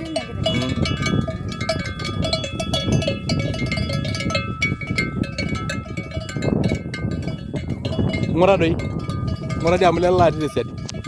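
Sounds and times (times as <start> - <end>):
cattle bells clanking: 0.0 - 11.0.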